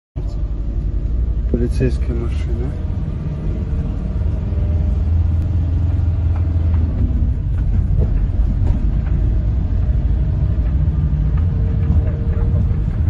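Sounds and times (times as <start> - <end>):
car engine and tyres rumbling: 0.2 - 13.0.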